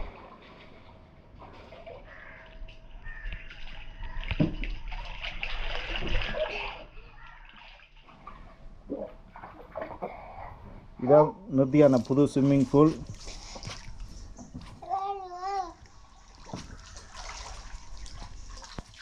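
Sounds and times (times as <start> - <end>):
water splashing in paddling pool: 0.0 - 19.0.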